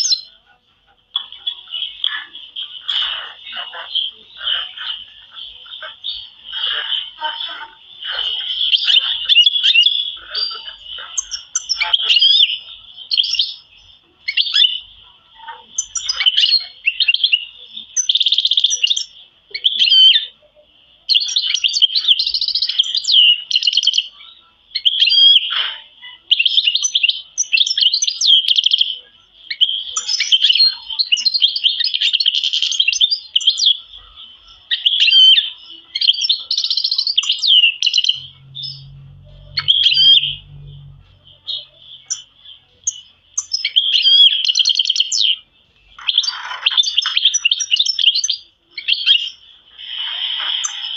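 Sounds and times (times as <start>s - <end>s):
canaries trilling and chirping: 0.0s - 50.9s.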